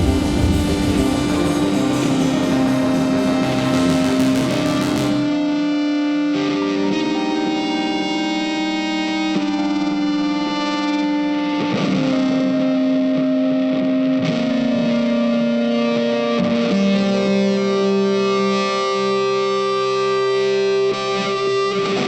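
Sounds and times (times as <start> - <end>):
distorted guitar chords: 0.0 - 22.0.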